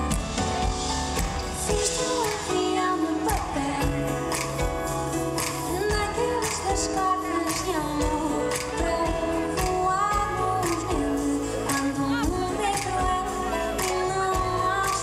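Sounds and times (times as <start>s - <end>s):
band with guitars and cello: 0.0s - 15.0s
woman singing: 1.6s - 4.8s, 5.4s - 15.0s.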